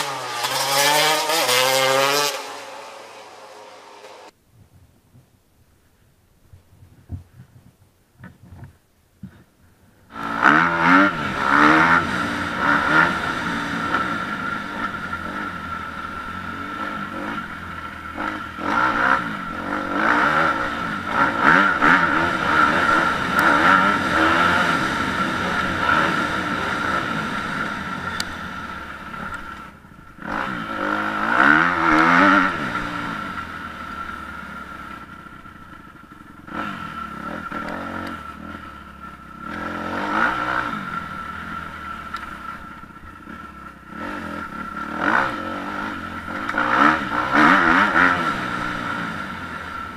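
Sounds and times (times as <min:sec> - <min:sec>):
dirt bike engine revving: 0:00.0 - 0:04.3, 0:10.1 - 0:49.9.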